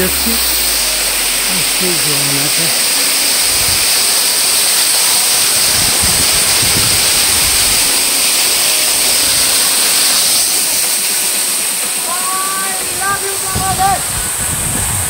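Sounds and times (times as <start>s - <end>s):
heavy rain falling: 0.0s - 15.0s
waterfall rushing: 0.0s - 15.0s.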